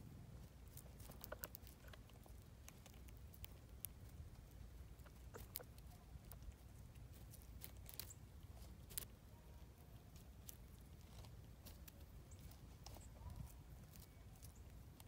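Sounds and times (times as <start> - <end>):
low steady rumble: 0.0 - 15.0
squirrel cracking seeds: 0.3 - 15.0.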